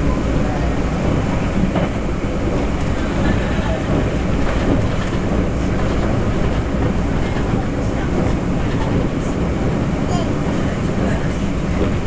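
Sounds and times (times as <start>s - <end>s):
train wheels on rail: 0.0s - 12.0s.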